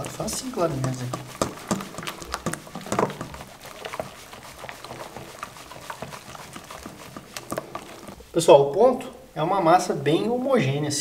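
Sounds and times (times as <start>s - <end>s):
whisk tapping metal bowl: 0.0s - 8.8s
batter squelching: 0.0s - 10.5s.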